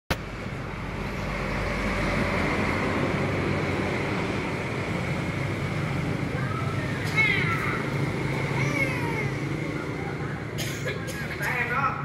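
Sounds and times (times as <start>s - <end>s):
road traffic rumble and hiss: 0.1s - 12.0s.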